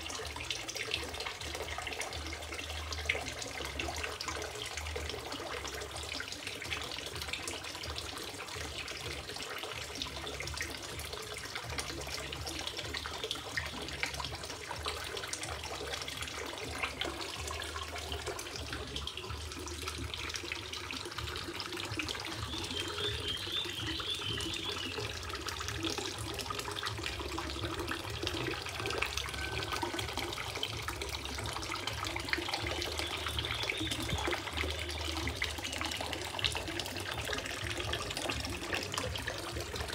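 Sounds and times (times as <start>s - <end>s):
water splashing into pond: 0.0s - 39.9s.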